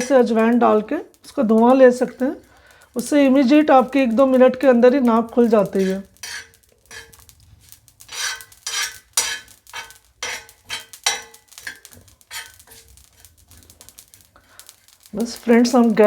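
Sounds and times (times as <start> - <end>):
spoon scraping seeds on hot pan: 0.0 - 16.0.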